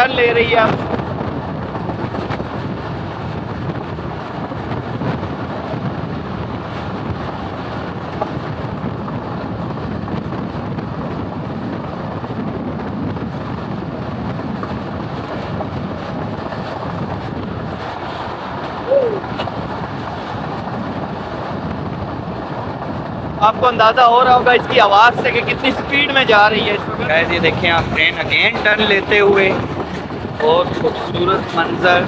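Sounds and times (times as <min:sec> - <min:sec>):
train wheel and track noise: 0:00.0 - 0:32.0
wind buffeting microphone: 0:00.0 - 0:32.0.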